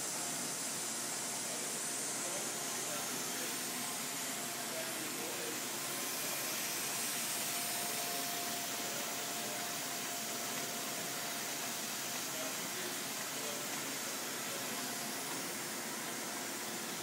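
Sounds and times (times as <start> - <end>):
printing press hissing and whirring: 0.0 - 17.0.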